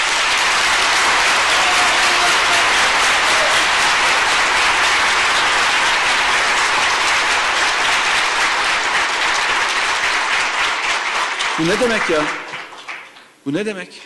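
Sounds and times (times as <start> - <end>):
large audience applauding: 0.0 - 13.4.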